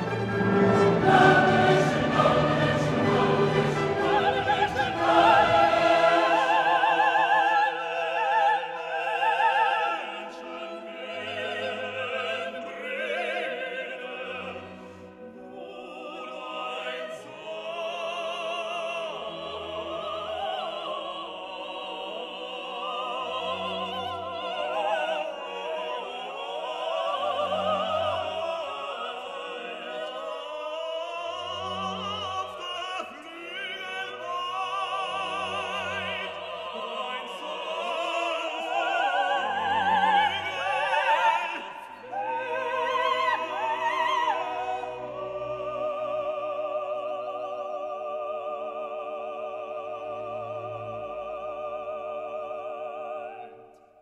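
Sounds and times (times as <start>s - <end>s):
orchestral accompaniment: 0.0s - 46.9s
operatic singing voice: 0.0s - 54.0s.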